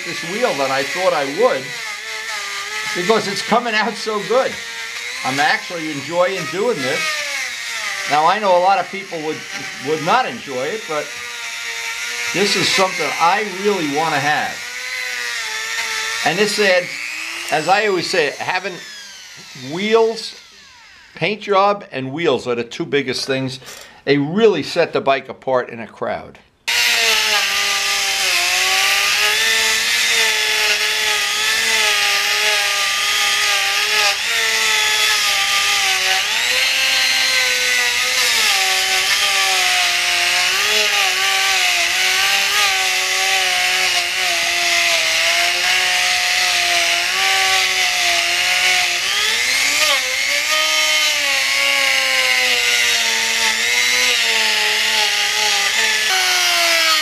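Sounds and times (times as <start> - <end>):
rotary tool whining: 0.0 - 21.2, 26.7 - 57.0.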